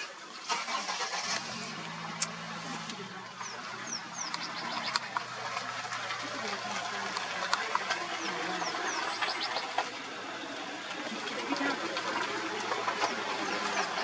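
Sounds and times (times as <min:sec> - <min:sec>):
idling vehicle engine hum: 0:00.0 - 0:14.0
small birds chirping: 0:02.2 - 0:14.0.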